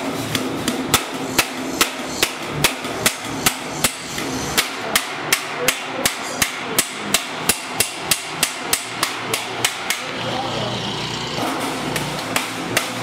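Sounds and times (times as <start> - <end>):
hammer beating sheet steel: 0.0 - 13.0.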